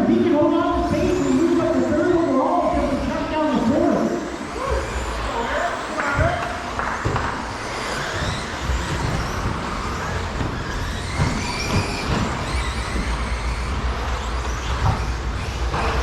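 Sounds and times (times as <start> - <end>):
rc truck motor whines: 0.0 - 16.0.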